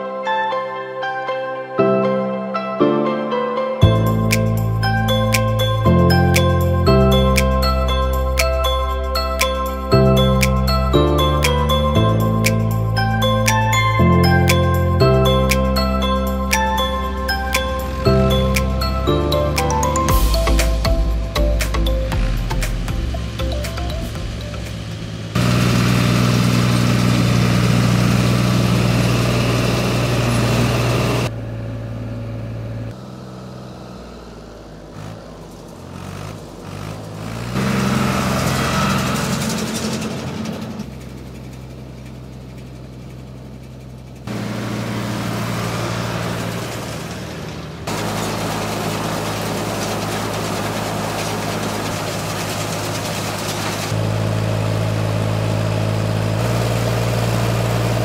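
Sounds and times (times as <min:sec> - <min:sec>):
tractor engines running: 0:03.8 - 0:58.0.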